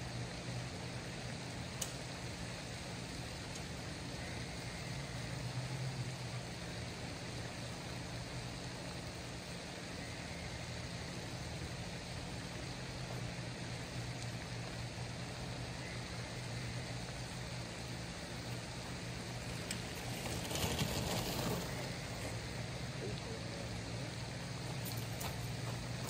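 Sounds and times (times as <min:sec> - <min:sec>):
outdoor night ambience hiss: 0:00.0 - 0:26.0
steady low hum: 0:00.0 - 0:26.0.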